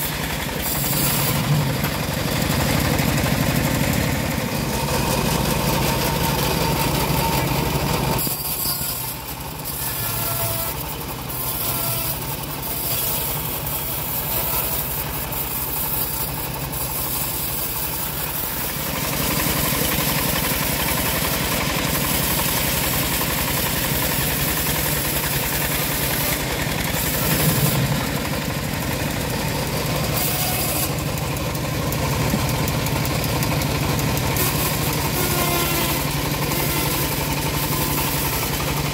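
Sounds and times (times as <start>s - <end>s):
bandsaw mill sawing log: 0.0s - 38.9s.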